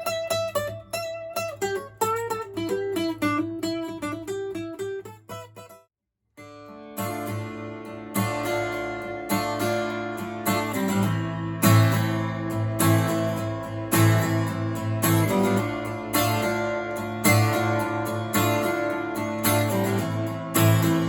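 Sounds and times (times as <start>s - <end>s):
acoustic guitar chords: 0.0s - 5.8s, 6.4s - 21.0s.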